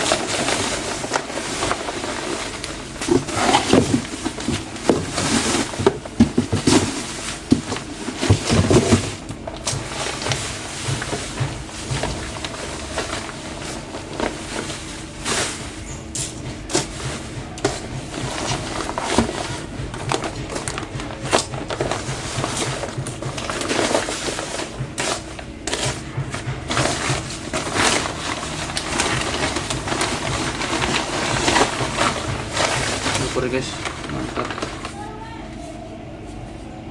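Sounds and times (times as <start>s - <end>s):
packaging rustling: 0.0s - 36.4s.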